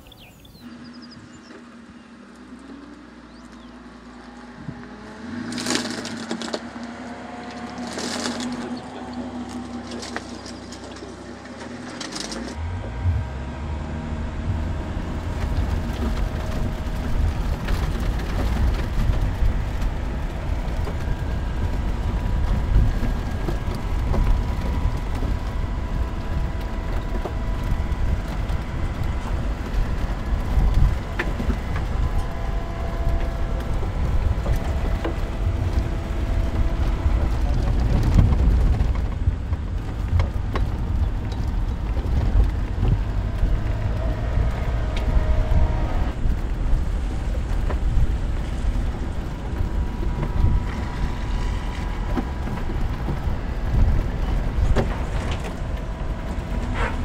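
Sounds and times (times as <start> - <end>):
engine hum: 0.0 - 57.0
truck rumbling on dirt track: 0.0 - 57.0.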